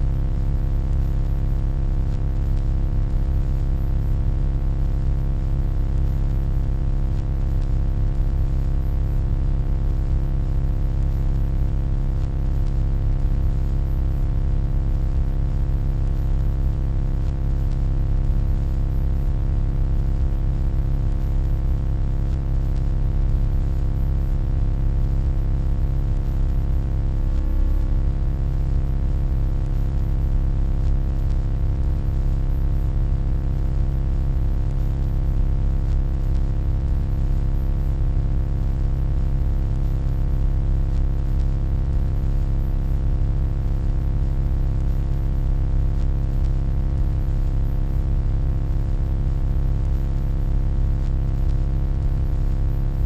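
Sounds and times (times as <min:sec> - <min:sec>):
electronic hum: 0:00.0 - 0:45.4, 0:49.0 - 0:50.4.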